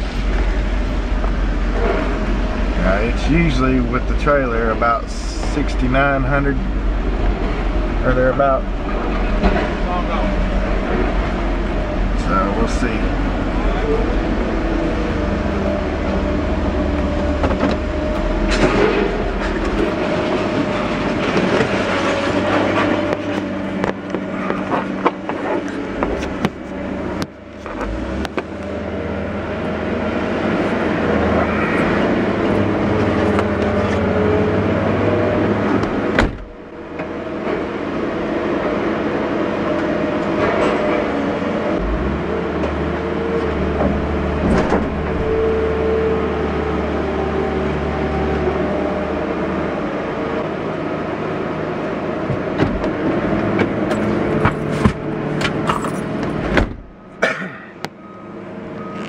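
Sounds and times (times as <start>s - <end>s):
truck engine hum: 0.0s - 59.0s.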